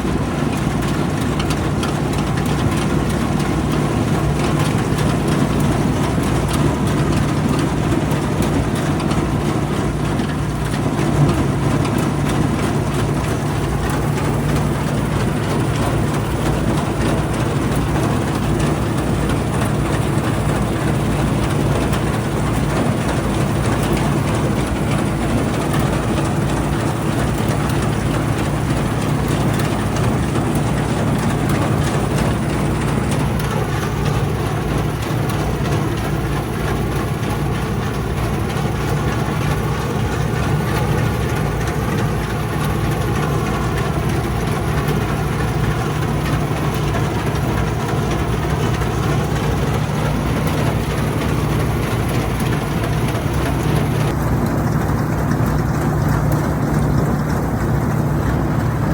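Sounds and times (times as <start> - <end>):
combine harvester running: 0.0 - 58.9.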